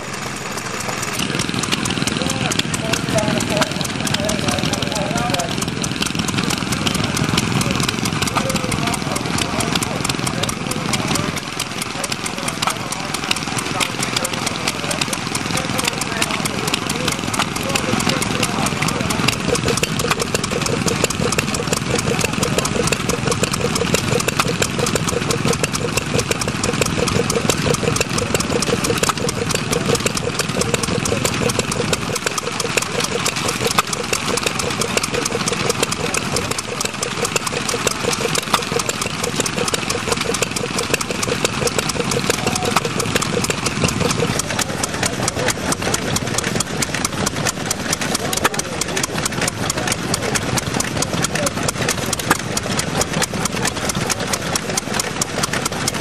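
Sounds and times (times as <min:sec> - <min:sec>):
stationary engine running: 0:00.0 - 0:56.0.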